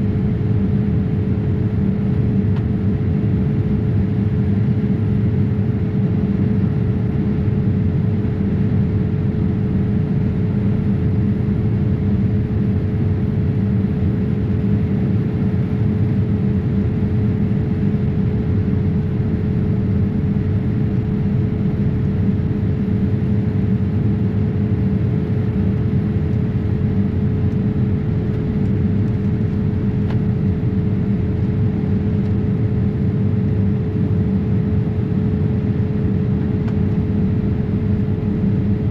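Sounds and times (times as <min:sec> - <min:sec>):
airliner cabin rumble: 0:00.0 - 0:38.9
constant hum tone: 0:00.0 - 0:38.9.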